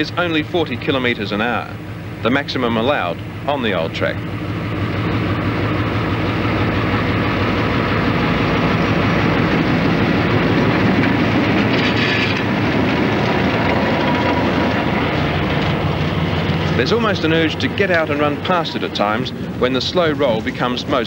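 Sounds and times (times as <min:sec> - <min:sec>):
locomotive engine hum: 0:00.0 - 0:21.0
train wheels rumbling: 0:00.0 - 0:21.0.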